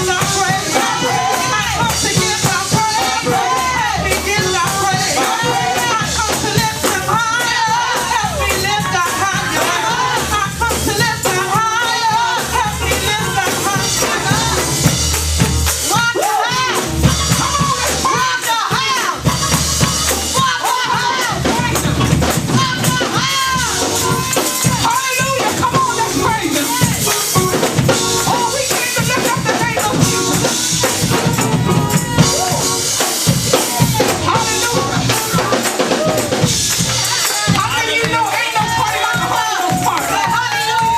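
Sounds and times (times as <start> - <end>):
drum kit beat: 0.0 - 40.9
gospel singing with band: 0.0 - 40.9
tambourine and shakers: 0.0 - 40.9.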